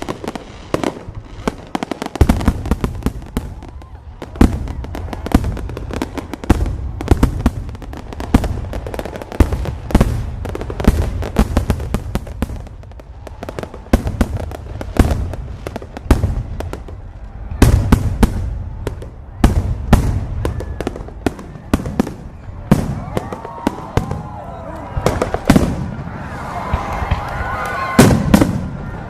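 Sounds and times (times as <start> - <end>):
fireworks bursts and bangs: 0.0 - 29.0.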